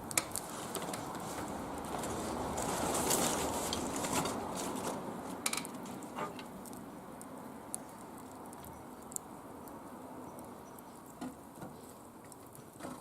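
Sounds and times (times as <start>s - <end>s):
wood fire crackling in a grill: 0.0s - 13.0s.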